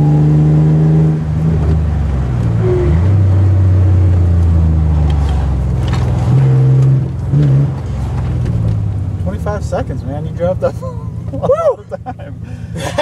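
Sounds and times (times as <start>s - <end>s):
car engine revving under load: 0.0s - 11.4s.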